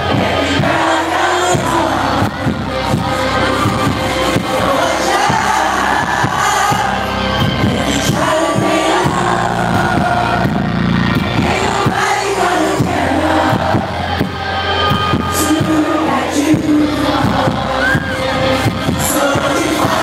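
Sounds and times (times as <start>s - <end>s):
crowd singing along and cheering: 0.0s - 20.0s
heavy bass notes: 0.0s - 20.0s
man singing with band: 0.0s - 20.0s.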